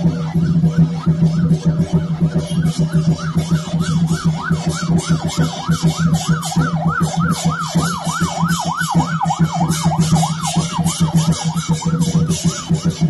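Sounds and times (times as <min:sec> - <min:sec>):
cymbals clashing: 0:00.0 - 0:13.0
drum beaten fast: 0:00.0 - 0:13.0.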